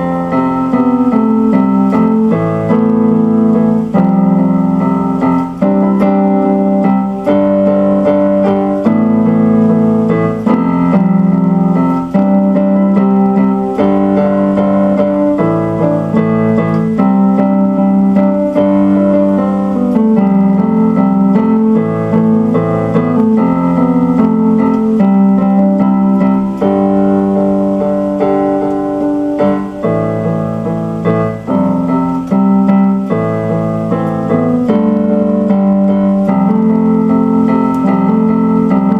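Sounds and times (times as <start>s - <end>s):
piano-like keyboard chords: 0.0s - 38.9s.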